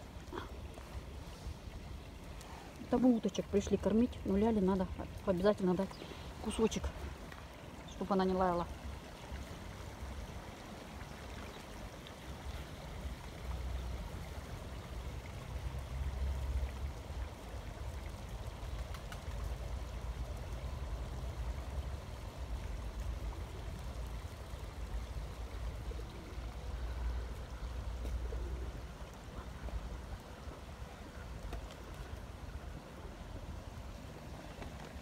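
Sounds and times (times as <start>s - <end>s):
small stream running: 0.0s - 35.0s.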